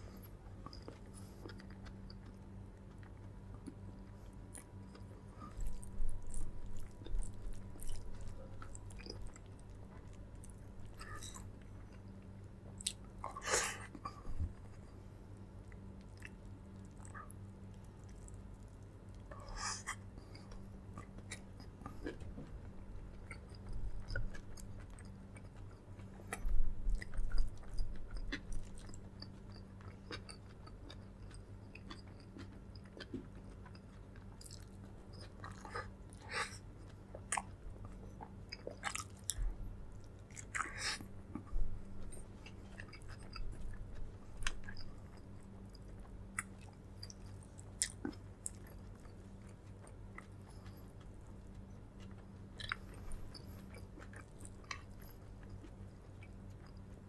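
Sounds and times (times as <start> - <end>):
low electrical hum: 0.0 - 57.0
person chewing food: 0.0 - 57.0.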